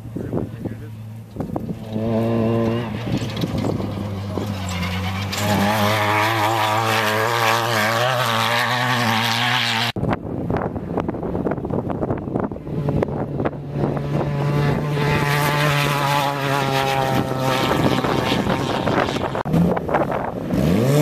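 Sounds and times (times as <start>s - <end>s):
race car engine running hard: 0.0s - 21.0s.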